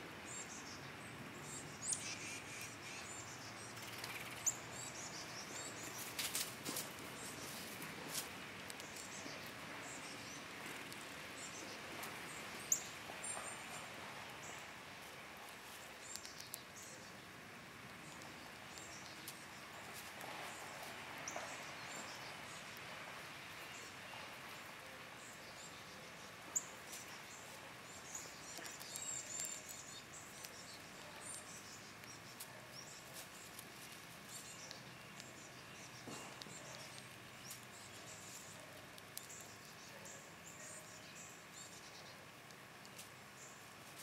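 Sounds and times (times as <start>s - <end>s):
faint outdoor hiss: 0.0s - 44.0s
squirrels cracking seeds: 3.7s - 44.0s.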